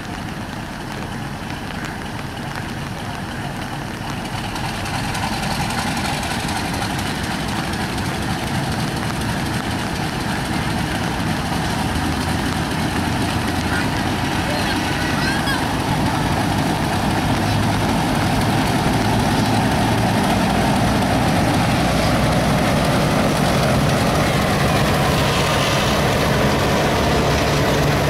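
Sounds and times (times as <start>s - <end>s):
diesel locomotive engine running: 0.0s - 28.0s.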